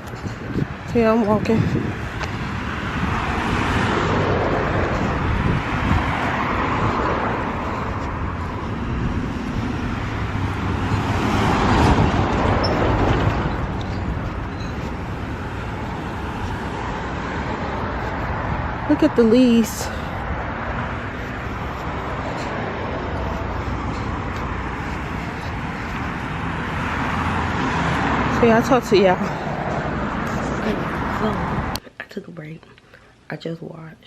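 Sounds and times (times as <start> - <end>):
passing cars rushing: 0.0 - 31.8.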